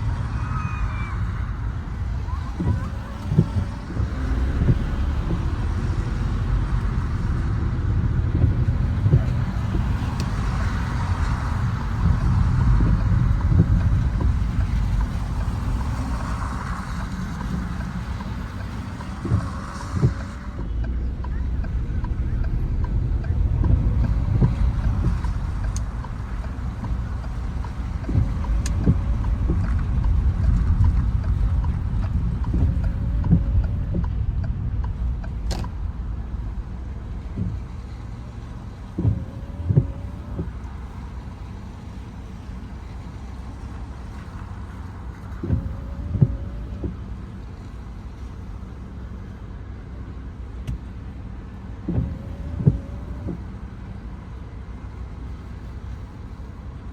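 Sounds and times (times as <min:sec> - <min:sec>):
car road and engine rumble: 0:00.0 - 0:56.9
windscreen wipers sweeping: 0:00.0 - 0:56.9.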